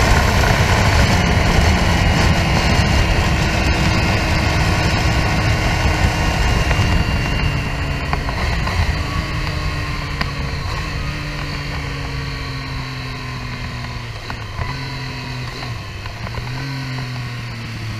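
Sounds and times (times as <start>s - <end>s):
motorcycle engine running: 0.0s - 17.9s
wind rushing over microphone: 0.0s - 17.9s.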